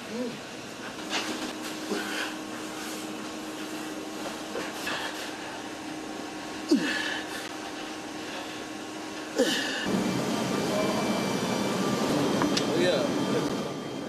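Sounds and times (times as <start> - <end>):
air handling hum: 0.0 - 14.0.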